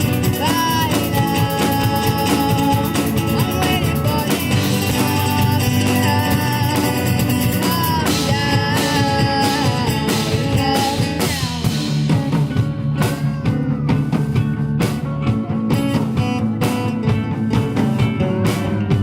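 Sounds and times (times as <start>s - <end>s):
rock band instrumental: 0.0s - 19.0s.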